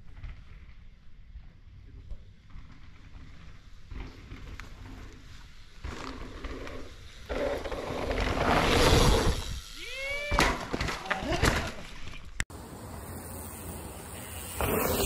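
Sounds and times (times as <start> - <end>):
bike tyres on rocky trail: 0.0 - 15.0.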